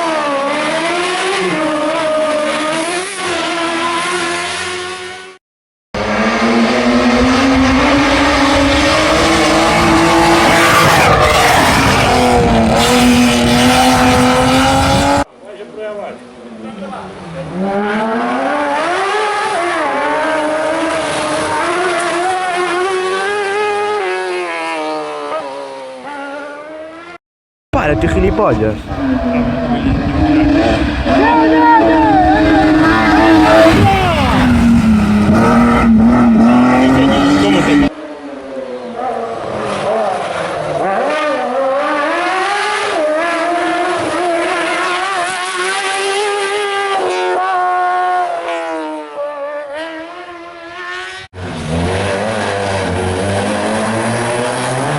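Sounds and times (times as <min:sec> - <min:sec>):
car engine revving high: 0:00.0 - 0:05.4, 0:06.0 - 0:15.3, 0:17.1 - 0:27.2, 0:27.8 - 0:38.3, 0:38.9 - 0:54.9.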